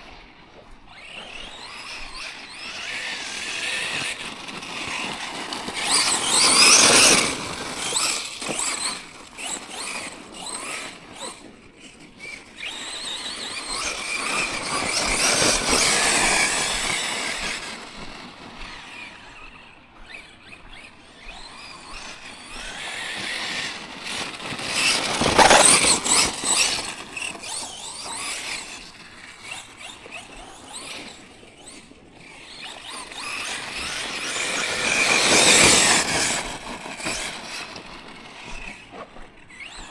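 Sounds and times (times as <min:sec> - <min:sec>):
rc truck motor whine: 0:00.0 - 0:39.9.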